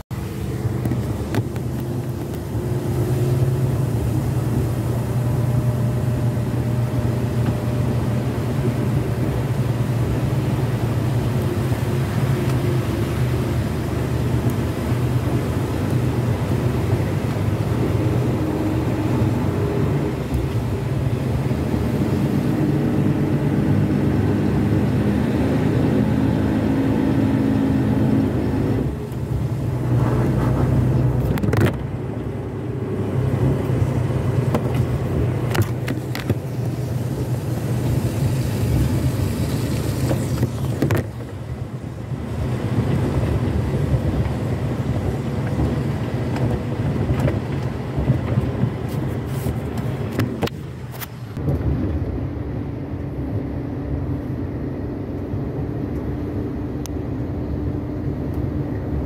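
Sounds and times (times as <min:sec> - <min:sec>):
road noise: 0:00.0 - 0:59.0.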